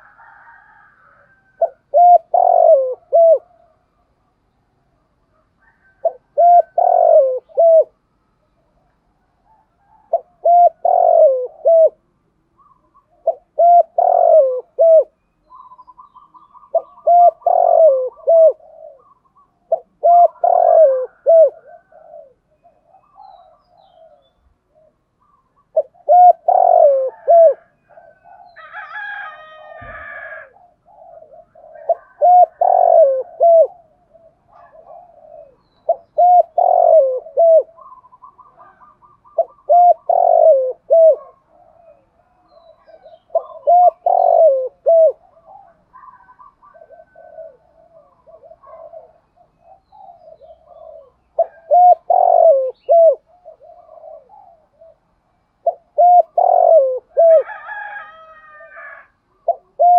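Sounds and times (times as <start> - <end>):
dove cooing: 0.0 - 4.2, 5.3 - 59.9.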